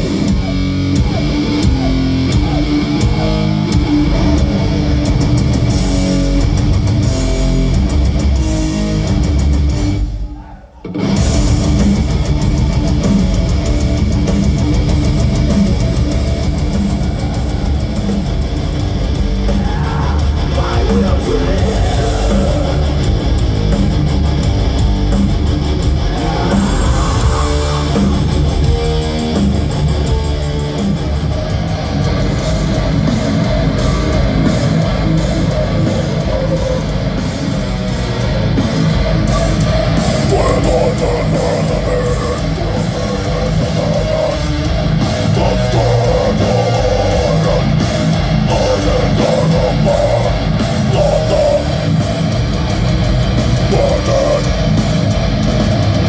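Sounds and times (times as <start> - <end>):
death metal band playing live: 0.0 - 56.0.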